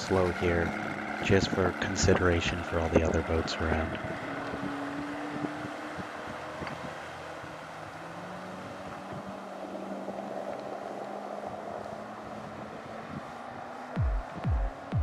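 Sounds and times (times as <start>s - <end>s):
outboard motor running: 0.0s - 15.0s
wind on microphone: 0.0s - 15.0s.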